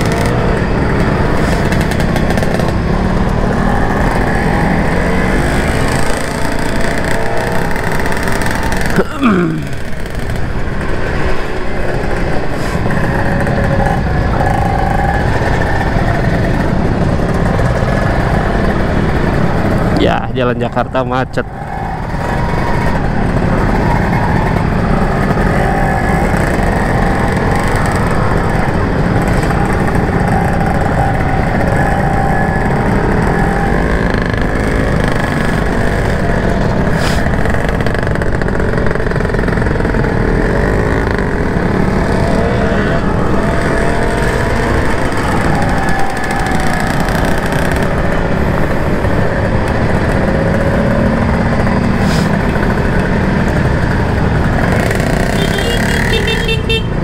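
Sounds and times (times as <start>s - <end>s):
motorcycle engines rumbling: 0.0s - 57.0s.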